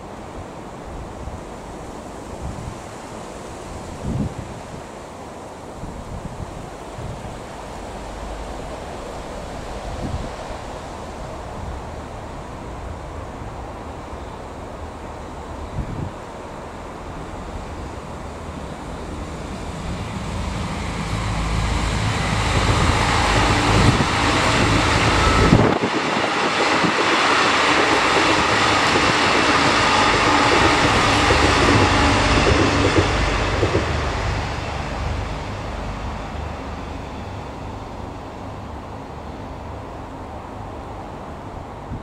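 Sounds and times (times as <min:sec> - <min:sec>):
train passing at speed: 0:00.0 - 0:42.0.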